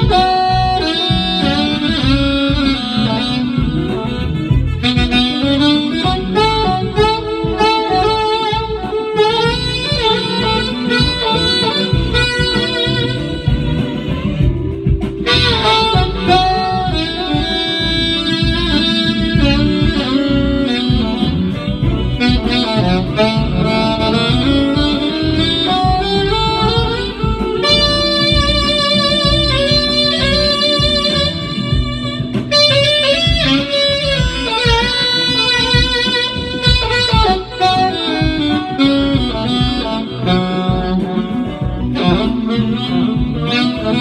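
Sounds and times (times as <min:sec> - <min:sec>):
backing track bass and drums: 0:00.0 - 0:44.0
saxophone jazzy solo melody: 0:00.0 - 0:44.0.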